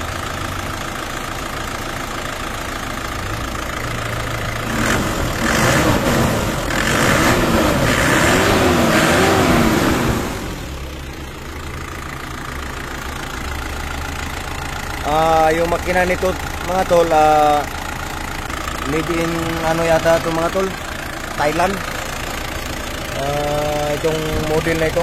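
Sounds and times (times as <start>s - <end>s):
diesel engine idling and revving: 0.0s - 25.0s.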